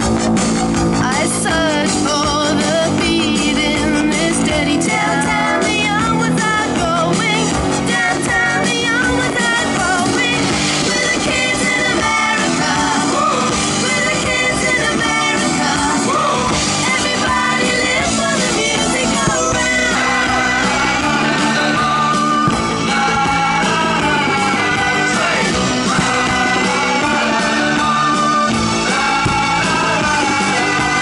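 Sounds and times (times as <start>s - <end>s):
rock song with vocals: 0.0s - 31.0s.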